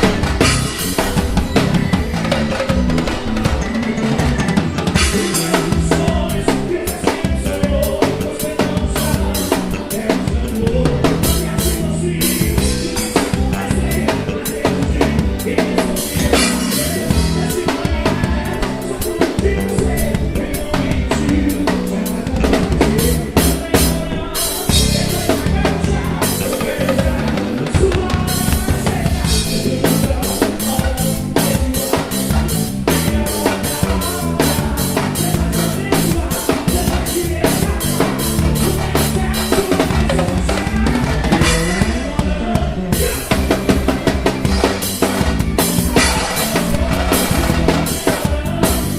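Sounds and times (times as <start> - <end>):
drum kit beat: 0.0 - 48.9
live band playing: 0.0 - 48.9.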